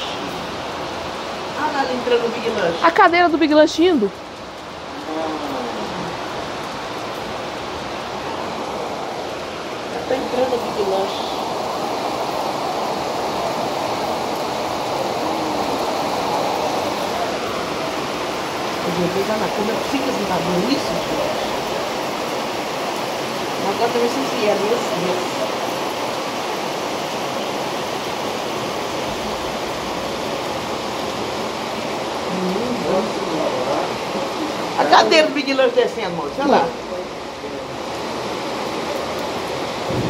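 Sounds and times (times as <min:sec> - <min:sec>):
floodwater rushing down a street: 0:00.0 - 0:40.0
torrential rain: 0:00.0 - 0:40.0.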